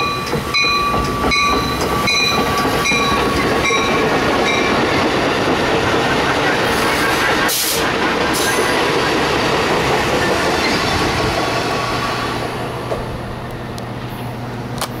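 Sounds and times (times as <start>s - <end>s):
electric train passing: 0.0s - 14.9s
wheels rumbling on rail: 0.0s - 15.0s.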